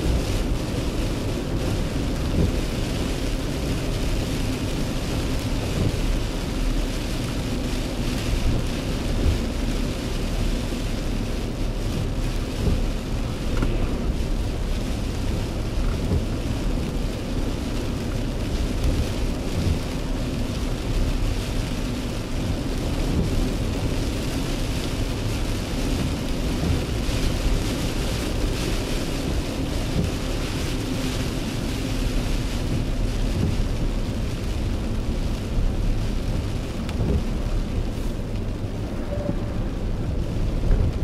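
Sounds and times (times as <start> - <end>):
car driving on wet road: 0.0 - 41.0
rain on car windshield: 0.0 - 41.0.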